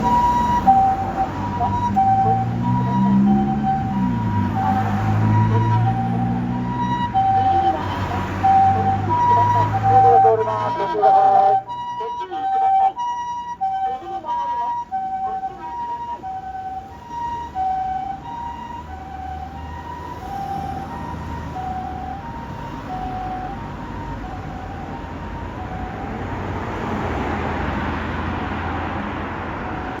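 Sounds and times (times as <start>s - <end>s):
rushing traffic: 0.0s - 30.0s
two-tone ambulance siren: 0.0s - 30.0s.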